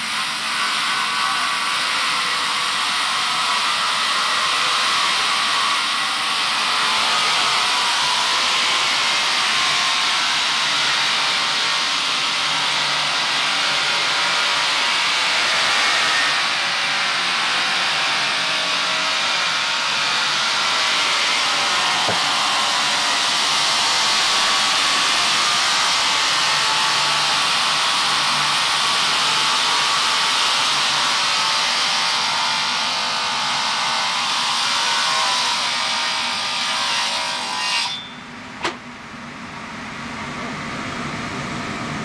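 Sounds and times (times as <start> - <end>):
woodworking machine whirring: 0.0 - 39.2.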